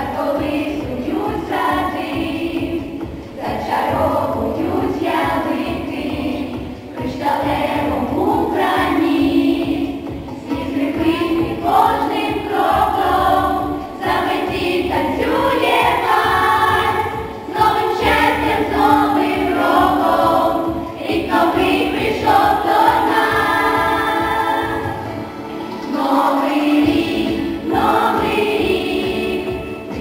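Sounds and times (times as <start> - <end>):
girls choir singing: 0.0 - 30.0.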